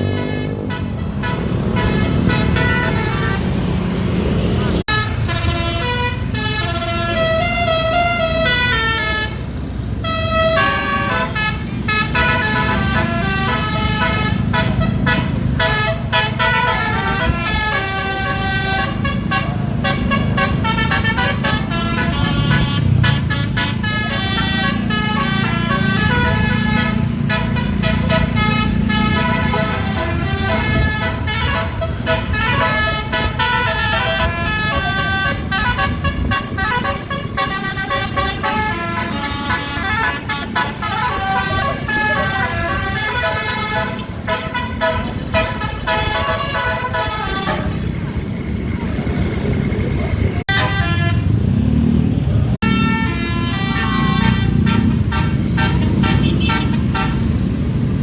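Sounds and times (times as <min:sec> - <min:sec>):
musical bus horn melody: 0:00.0 - 0:03.8, 0:04.8 - 0:48.2, 0:50.4 - 0:51.6, 0:52.6 - 0:57.6.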